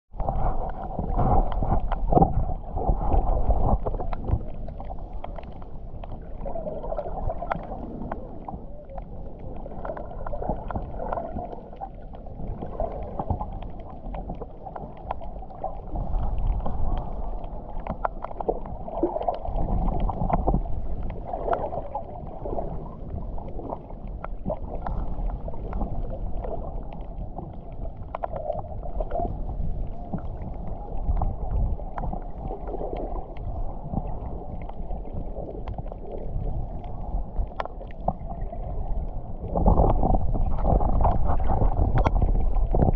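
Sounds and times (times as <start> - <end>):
underwater rumble of moving water: 0.1 - 42.9
small crackling clicks: 0.5 - 42.9.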